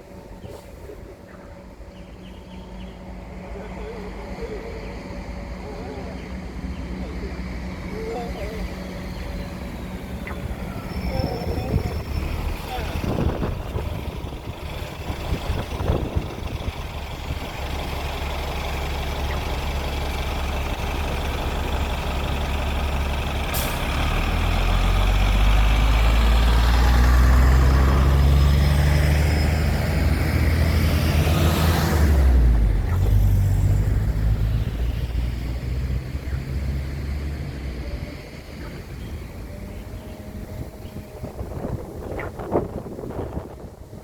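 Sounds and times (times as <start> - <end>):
heavy vehicle passing: 2.8 - 44.0.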